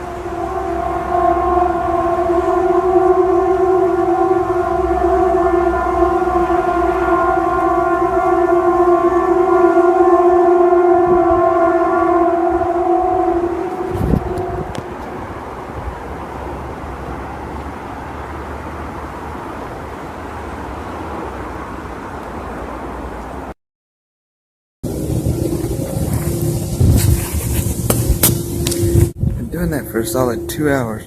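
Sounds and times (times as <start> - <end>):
loud steady trumpet-like tone: 0.0 - 20.2, 24.8 - 31.0.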